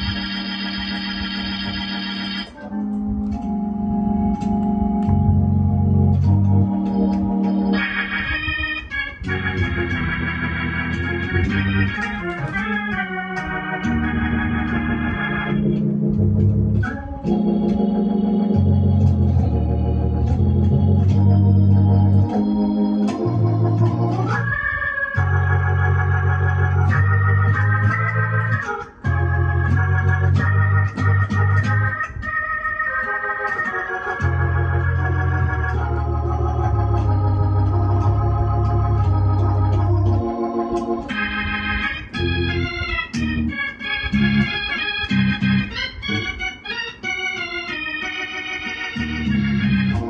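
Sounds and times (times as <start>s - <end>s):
electronic organ chords: 0.0s - 50.0s.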